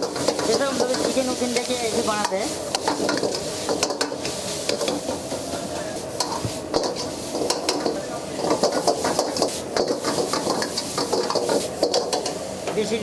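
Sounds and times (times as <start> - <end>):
meat sizzling in a pan: 0.0 - 12.7.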